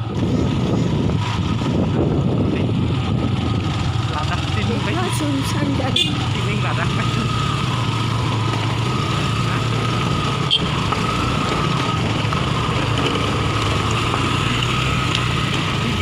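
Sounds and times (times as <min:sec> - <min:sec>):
road and wind noise: 0:00.0 - 0:16.0
vehicle engine humming: 0:00.0 - 0:16.0.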